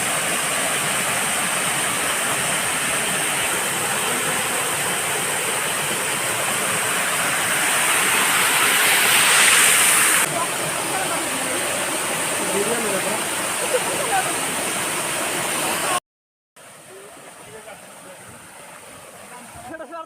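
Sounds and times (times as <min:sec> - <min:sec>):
waterfall rushing: 0:00.0 - 0:16.0, 0:16.6 - 0:20.0.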